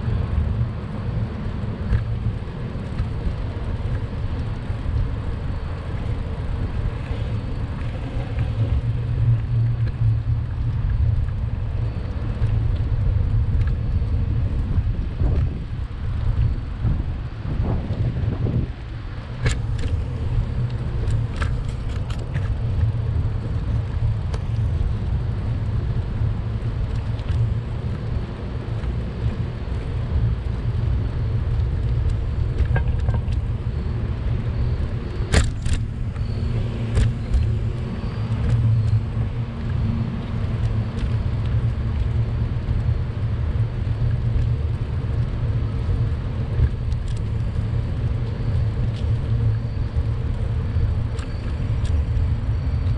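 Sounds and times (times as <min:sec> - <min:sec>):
bicycle clicks and rattles: 0:00.0 - 0:52.9
road and wind noise: 0:00.0 - 0:52.9.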